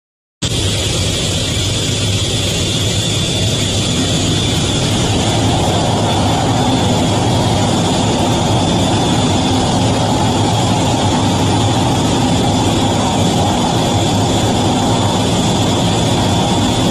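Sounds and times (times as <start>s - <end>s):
jet engines whining: 0.4s - 16.9s.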